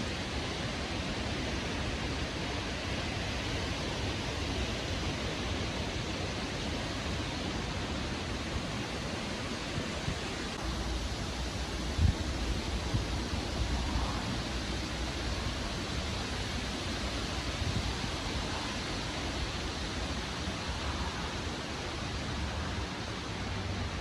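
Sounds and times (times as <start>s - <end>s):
strong wind blowing: 0.0s - 24.0s
wind buffeting microphone: 0.1s - 24.0s.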